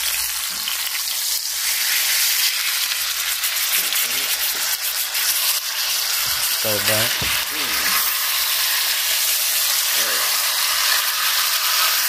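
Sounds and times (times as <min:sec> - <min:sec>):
steaks sizzling in a skillet: 0:00.0 - 0:12.0.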